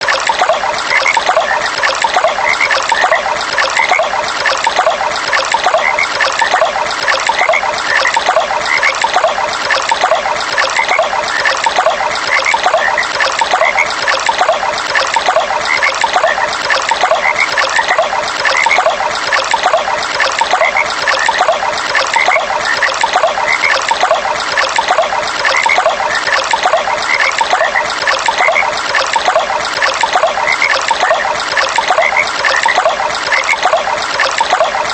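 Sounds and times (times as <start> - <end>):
water trickling: 0.0 - 34.9
frogs calling: 0.4 - 34.6.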